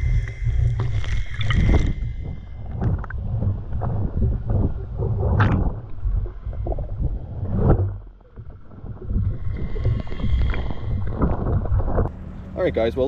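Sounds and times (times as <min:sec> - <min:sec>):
muffled underwater surf churning: 0:00.0 - 0:13.0.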